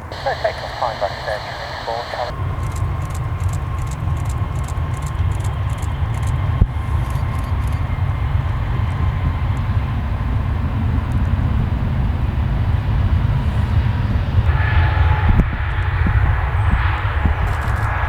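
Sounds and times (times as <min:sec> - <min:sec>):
distant jet engines rumbling: 0:00.0 - 0:18.0.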